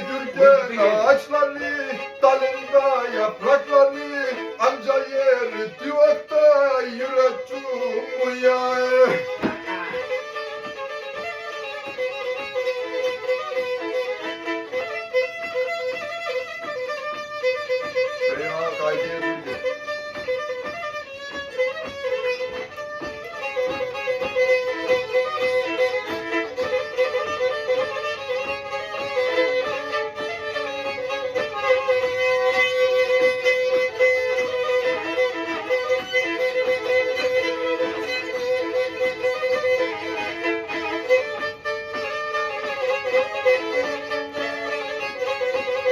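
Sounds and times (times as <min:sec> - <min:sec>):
bowed fiddle fast melody: 0:00.0 - 0:45.9.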